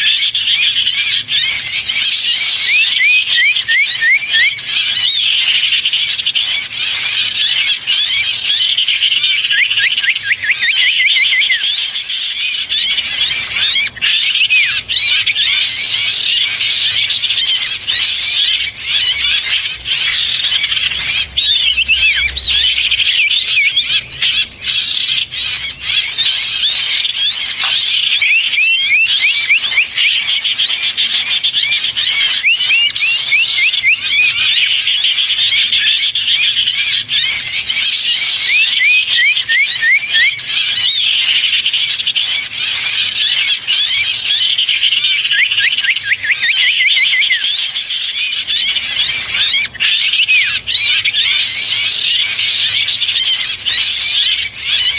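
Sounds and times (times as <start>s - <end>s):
songbirds chirping and calling: 0.0s - 54.9s.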